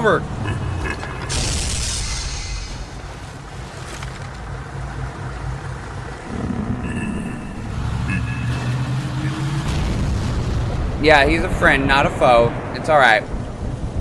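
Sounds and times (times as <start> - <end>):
deep rumble: 0.0 - 14.0
windy noise: 0.0 - 14.0.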